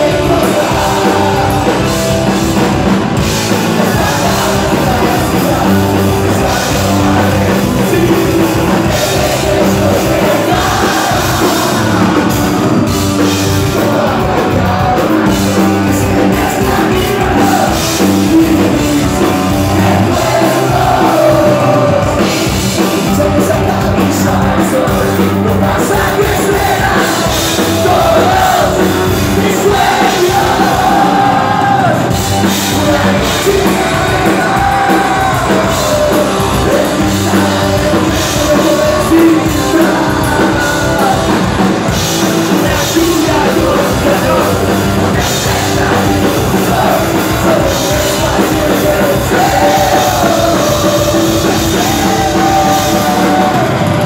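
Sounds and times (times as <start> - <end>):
lead singer singing: 0.0 - 54.0
live rock band playing: 0.0 - 54.0.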